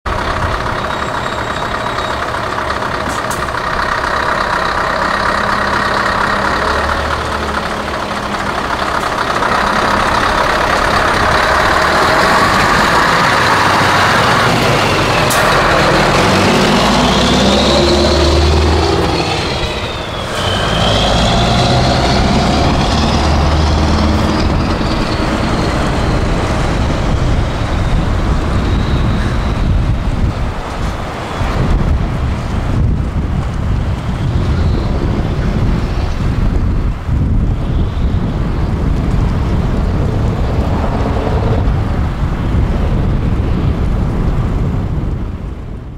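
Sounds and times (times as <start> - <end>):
truck engine through straight pipes: 0.0 - 45.9.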